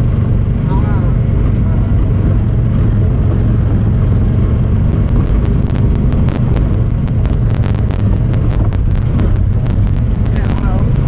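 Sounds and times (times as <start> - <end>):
engine running low rumble: 0.0 - 11.0.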